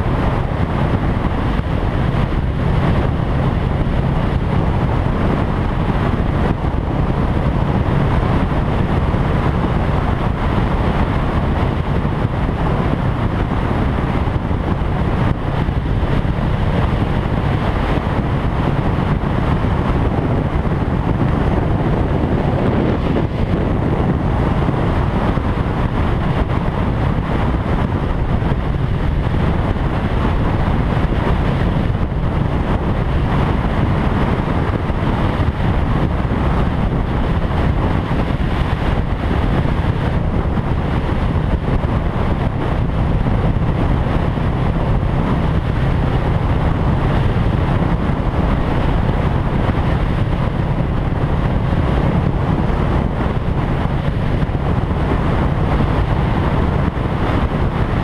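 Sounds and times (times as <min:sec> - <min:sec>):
motorcycle engine drone: 0:00.0 - 0:58.0
wind rushing over microphone: 0:00.0 - 0:58.0.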